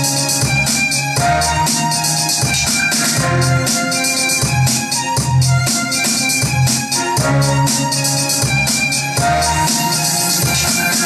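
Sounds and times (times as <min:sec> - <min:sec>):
dance music with steady beat: 0:00.0 - 0:11.0.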